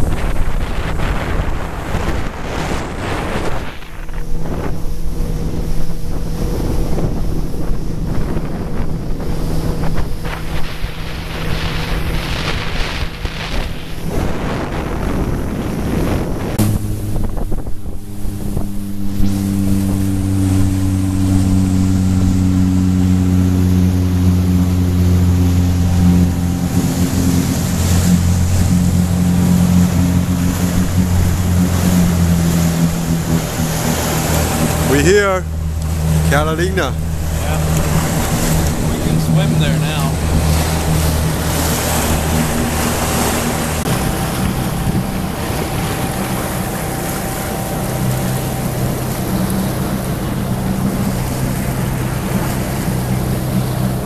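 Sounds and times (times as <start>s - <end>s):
motorboat engine: 0.0s - 54.0s
rush of wind and water: 0.0s - 54.0s.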